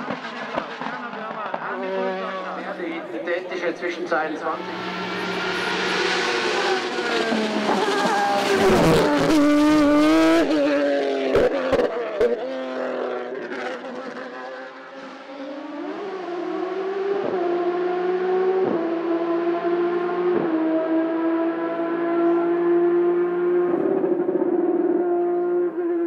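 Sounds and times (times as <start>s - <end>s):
race car engine at full throttle: 0.0s - 26.0s
engine shifting up: 3.6s - 26.0s.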